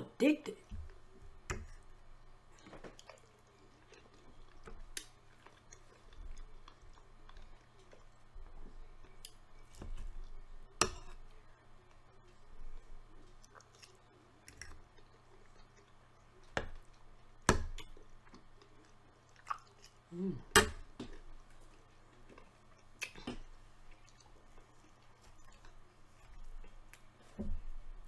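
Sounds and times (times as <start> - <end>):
person chewing food: 0.8 - 28.0.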